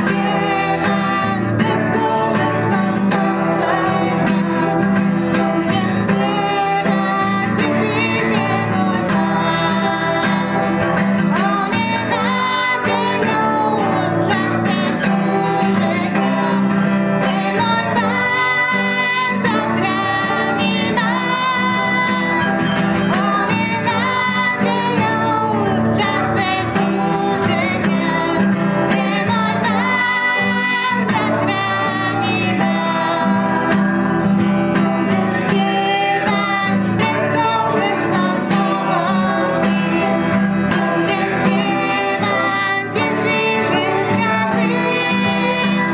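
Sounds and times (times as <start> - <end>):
strummed acoustic guitar: 0.0 - 45.9
woman singing: 0.0 - 45.9.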